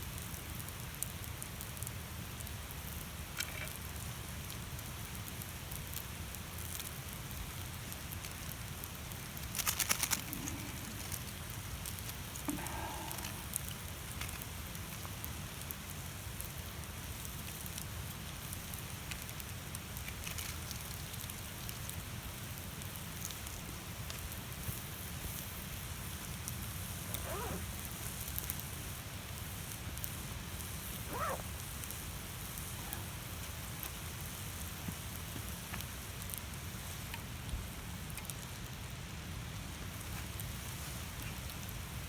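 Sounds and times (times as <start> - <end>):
fire sizzling and crackling: 0.0 - 42.0.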